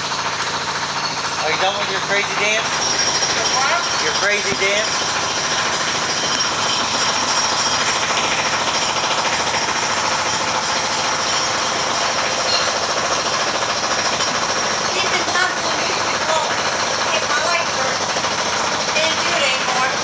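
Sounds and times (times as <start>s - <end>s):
jackhammer hammering: 0.0s - 20.0s.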